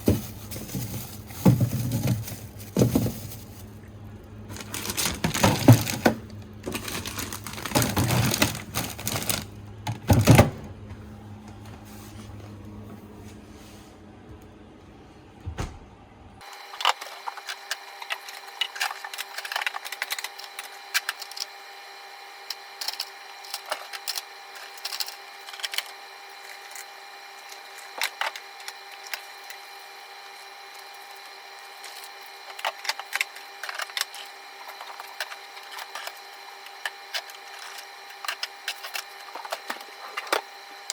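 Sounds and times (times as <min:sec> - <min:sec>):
food packages being handled: 0:00.0 - 0:10.6, 0:16.5 - 0:21.8, 0:22.4 - 0:40.9
appliance hum: 0:00.0 - 0:40.9.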